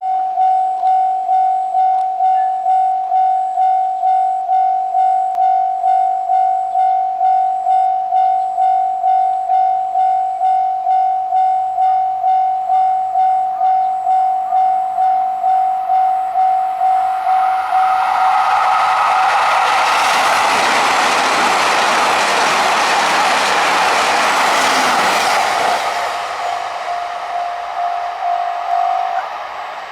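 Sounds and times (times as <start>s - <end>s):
railroad crossing bell ringing: 0.0s - 29.9s
approaching diesel train rush: 1.4s - 29.9s.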